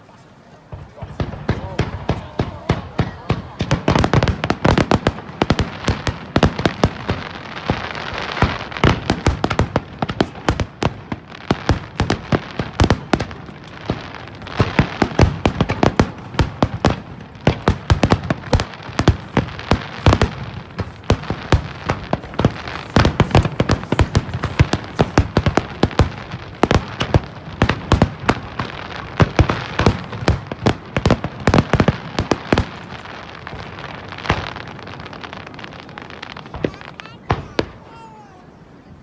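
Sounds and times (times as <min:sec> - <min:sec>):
fireworks bangs: 0:00.0 - 0:39.0
fireworks crackling: 0:00.0 - 0:39.0.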